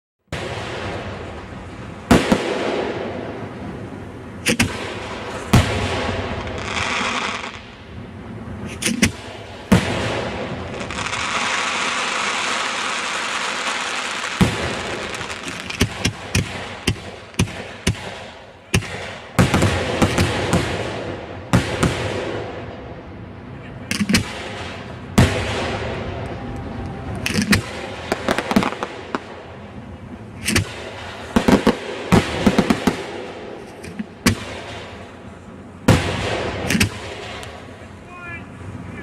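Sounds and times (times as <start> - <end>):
fireworks bangs: 0.3 - 39.0
fireworks crackling: 0.3 - 39.0.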